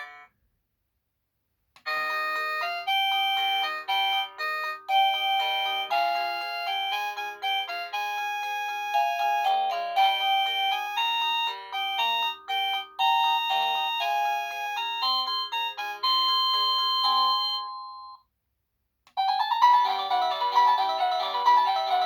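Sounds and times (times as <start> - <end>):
doorbell electronic chime melody: 0.0 - 0.3, 1.9 - 18.2, 19.2 - 22.0.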